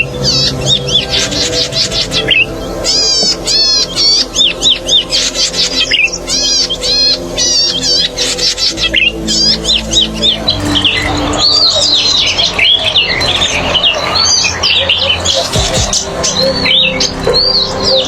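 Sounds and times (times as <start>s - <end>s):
warbler singing buzzy chirps: 0.0s - 18.0s.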